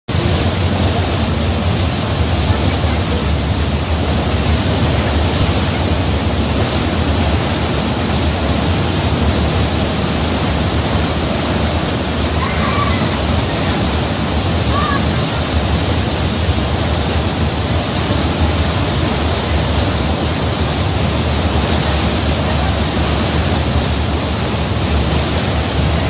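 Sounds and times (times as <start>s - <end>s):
sea water rushing: 0.1s - 26.0s
wind: 0.1s - 26.0s.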